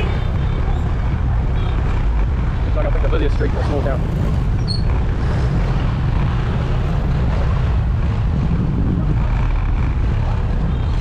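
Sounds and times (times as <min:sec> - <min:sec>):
road noise: 0:00.0 - 0:11.0
wind rumble on microphone: 0:00.0 - 0:11.0.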